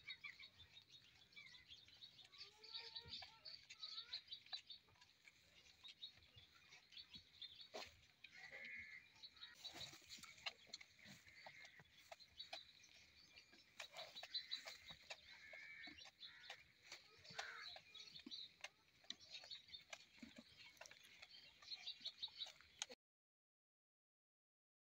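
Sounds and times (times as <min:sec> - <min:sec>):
calf suckling wet clicks: 0:00.1 - 0:23.0.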